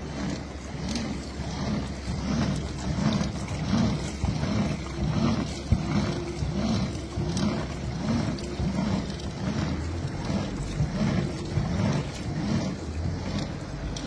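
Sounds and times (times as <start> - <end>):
washing machine sloshing water: 0.0 - 14.0.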